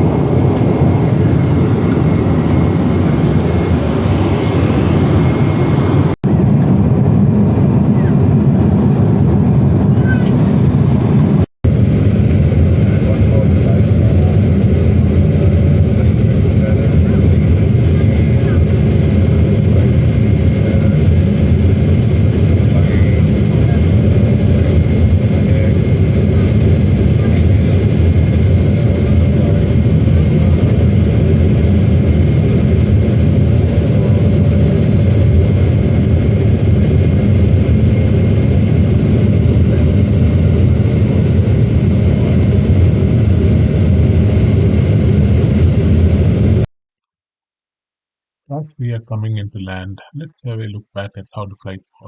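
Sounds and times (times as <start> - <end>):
airliner cabin noise: 0.0 - 46.6.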